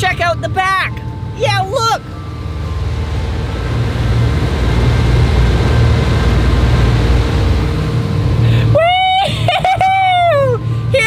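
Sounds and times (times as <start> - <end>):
wind and water rushing: 0.0 - 9.5
boat engine drone: 0.0 - 11.0.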